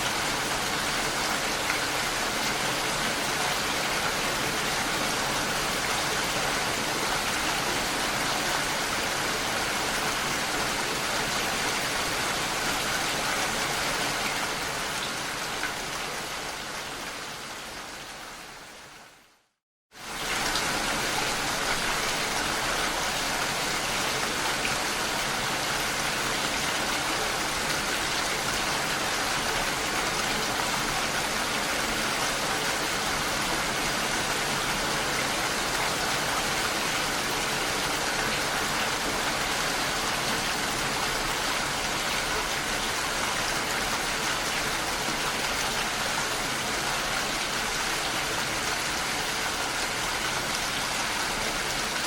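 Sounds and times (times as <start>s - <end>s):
rain falling steadily: 0.0s - 52.0s.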